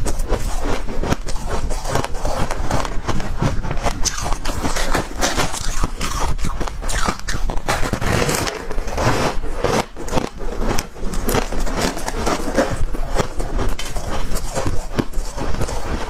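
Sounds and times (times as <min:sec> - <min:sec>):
mouth chewing crunchy frost: 0:00.0 - 0:16.0.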